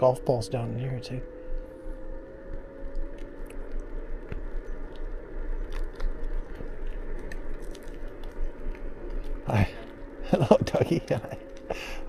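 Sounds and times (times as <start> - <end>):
faint motor whine: 0.0 - 12.0
wheels crunching over rough path: 0.0 - 12.0.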